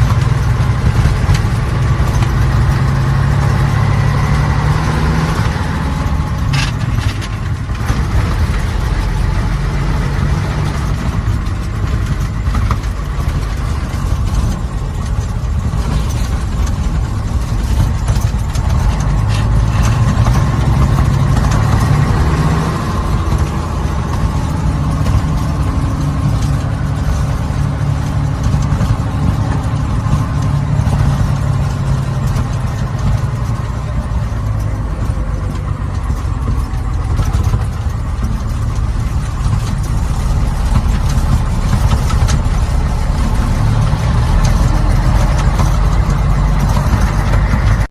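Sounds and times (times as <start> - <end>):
truck engine running: 0.0 - 47.9.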